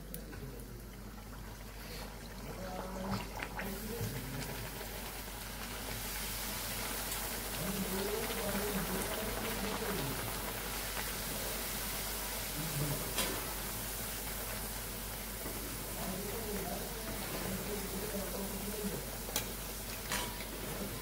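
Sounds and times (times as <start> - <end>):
dough deep-frying in oil: 0.0 - 21.0.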